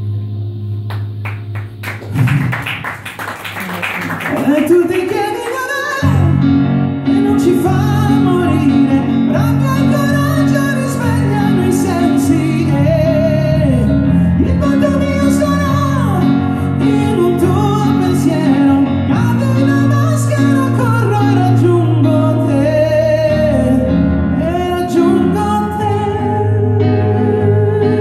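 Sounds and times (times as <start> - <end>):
electric keyboard chords: 0.0 - 3.1, 4.5 - 28.0
man singing with vibrato: 4.3 - 28.0.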